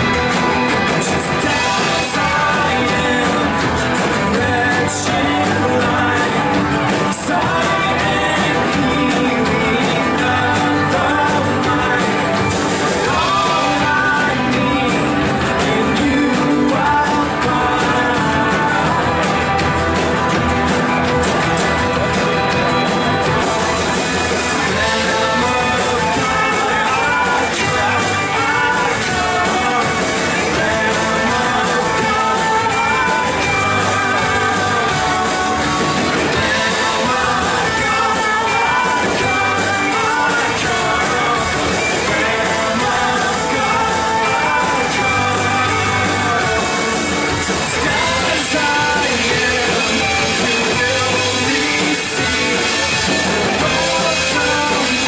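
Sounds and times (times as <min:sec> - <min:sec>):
drums: 0:00.0 - 0:55.0
guitar: 0:00.0 - 0:55.0
people singing: 0:00.0 - 0:55.0.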